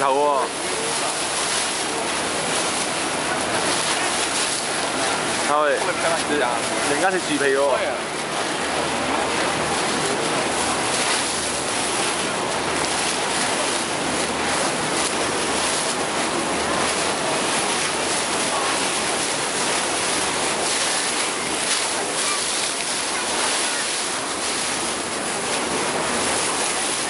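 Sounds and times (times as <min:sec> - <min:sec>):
wind and water rushing: 0:00.0 - 0:27.0.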